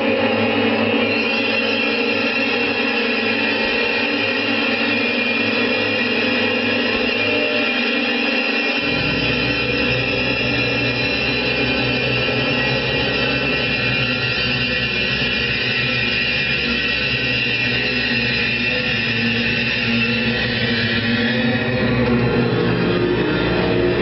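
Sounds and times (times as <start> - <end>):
droning held tones: 0.0 - 24.0.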